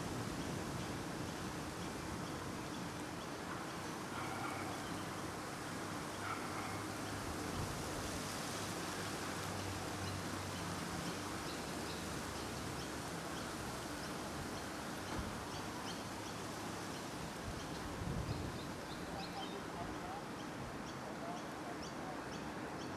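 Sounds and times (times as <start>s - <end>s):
wind hiss: 0.0s - 21.2s.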